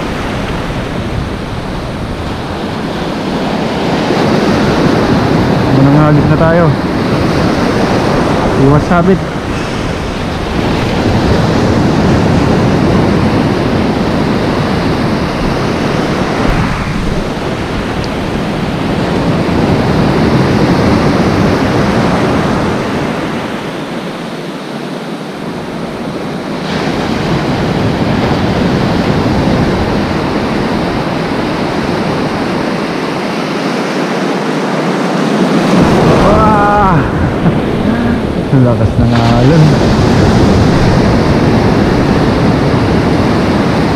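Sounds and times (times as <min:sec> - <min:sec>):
ocean surf breaking: 0:00.0 - 0:43.9.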